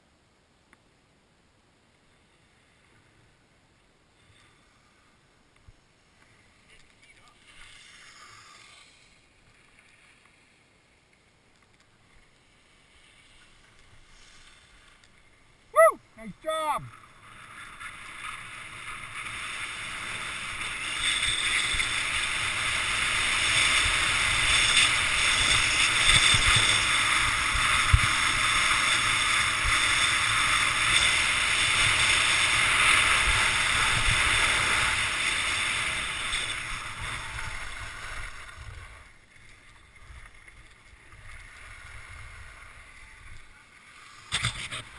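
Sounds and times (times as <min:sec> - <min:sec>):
skis hissing on packed snow: 0:06.2 - 0:11.0, 0:12.0 - 0:40.0, 0:41.0 - 0:44.9.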